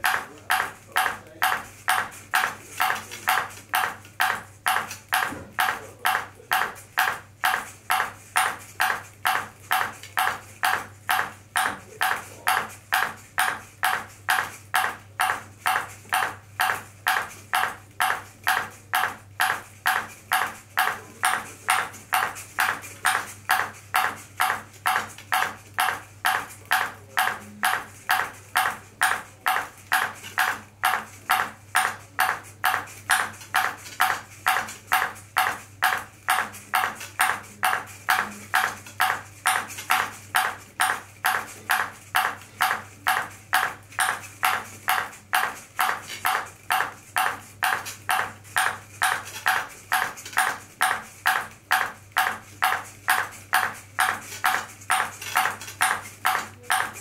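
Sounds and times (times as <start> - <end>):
ping pong ball bouncing: 0.0 - 57.0.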